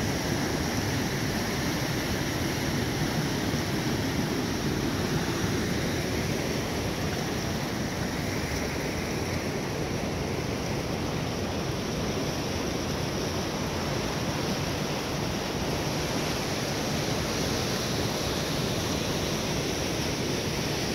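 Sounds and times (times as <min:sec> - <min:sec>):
river water rushing over rapids: 0:00.0 - 0:20.9.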